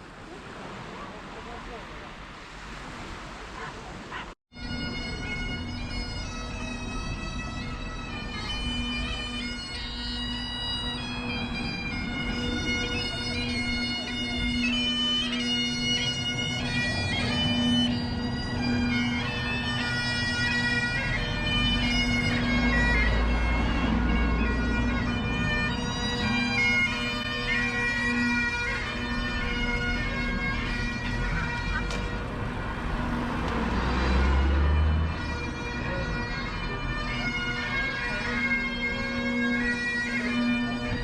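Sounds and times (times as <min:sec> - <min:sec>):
bagpipes playing a tune: 0:04.5 - 0:41.0.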